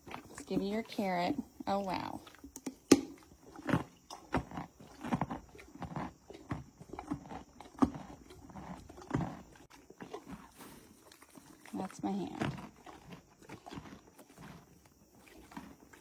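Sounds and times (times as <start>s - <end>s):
horse chewing carrot crunches: 0.0s - 16.0s.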